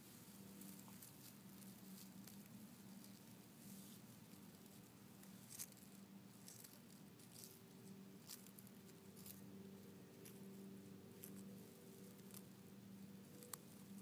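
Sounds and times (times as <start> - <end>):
faint low hum: 0.0 - 14.0
rustling grass: 0.0 - 14.0.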